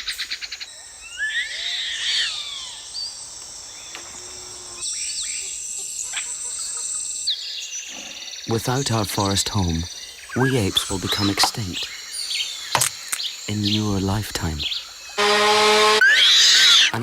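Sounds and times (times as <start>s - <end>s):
high insect drone: 0.0s - 17.0s
sweeping bird calls: 0.0s - 17.0s.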